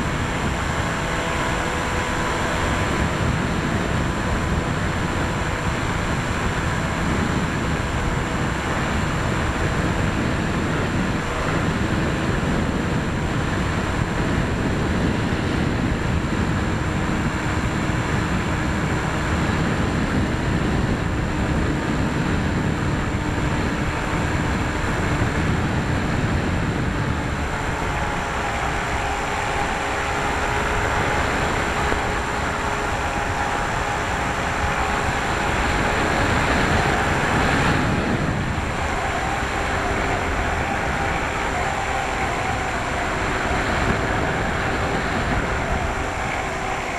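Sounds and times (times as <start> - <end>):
electric motor and propeller whine: 0.0 - 46.9
wind rushing over microphone: 0.0 - 46.9.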